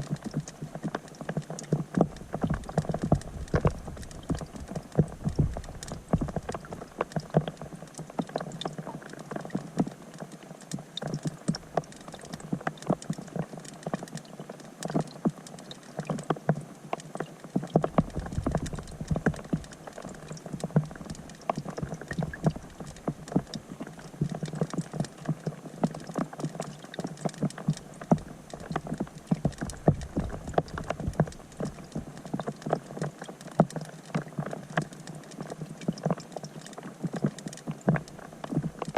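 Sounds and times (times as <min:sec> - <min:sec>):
rain falling on water underwater: 0:00.0 - 0:38.9.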